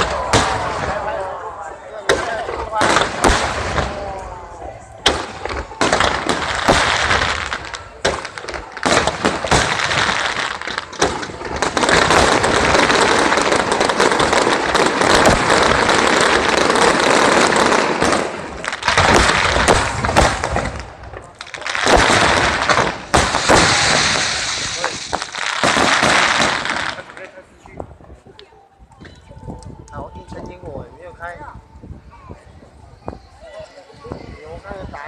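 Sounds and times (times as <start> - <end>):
fireworks bangs and crackling: 0.0 - 28.1.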